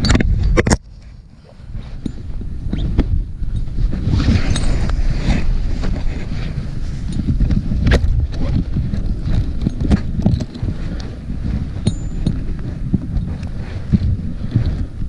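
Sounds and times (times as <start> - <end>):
gear clicking and rustling: 0.0 - 15.0
wind buffeting microphone: 0.0 - 15.0.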